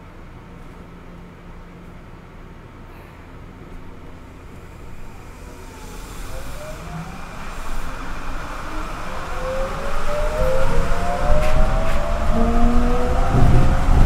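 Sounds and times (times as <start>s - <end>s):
train inverter whine: 0.0s - 14.0s
train running noise: 0.0s - 14.0s.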